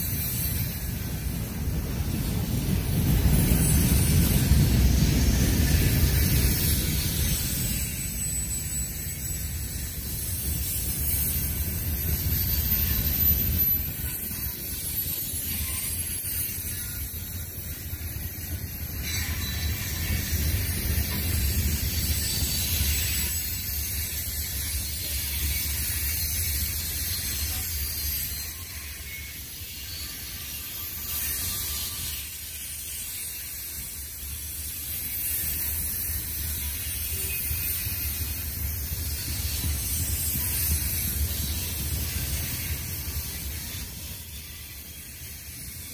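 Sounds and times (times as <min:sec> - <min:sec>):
high hiss: 0:00.0 - 0:45.9
train wheels rumbling on rails: 0:00.0 - 0:45.9.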